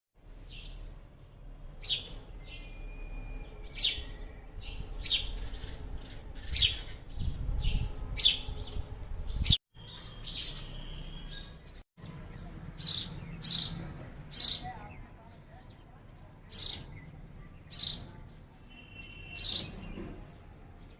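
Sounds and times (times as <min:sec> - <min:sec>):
sparrow chirping: 0:00.3 - 0:20.9.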